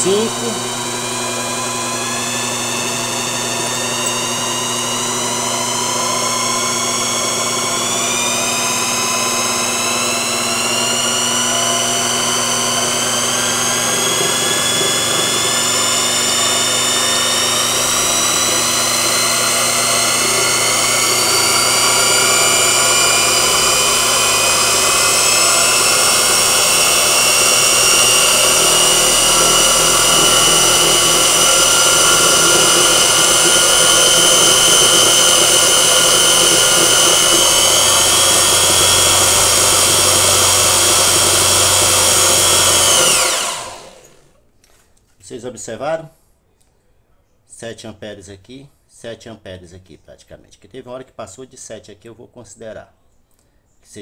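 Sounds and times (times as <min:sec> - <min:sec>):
electric motor whine: 0:00.0 - 0:44.3.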